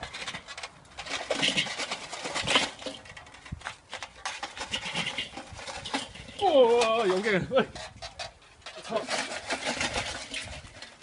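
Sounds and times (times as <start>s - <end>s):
charcoal clattering on metal grate: 0.0s - 11.0s.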